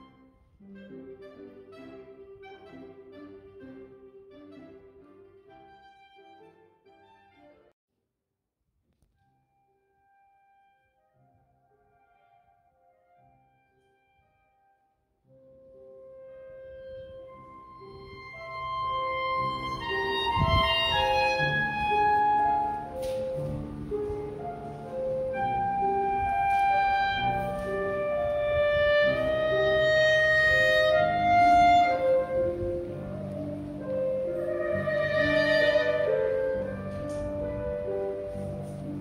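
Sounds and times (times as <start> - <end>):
instrumental background music: 0.0 - 7.7, 9.8 - 39.0.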